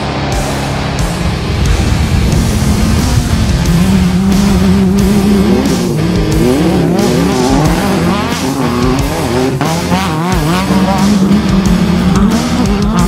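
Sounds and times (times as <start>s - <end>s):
buggy engine revving: 0.0s - 13.0s
music: 0.0s - 13.0s.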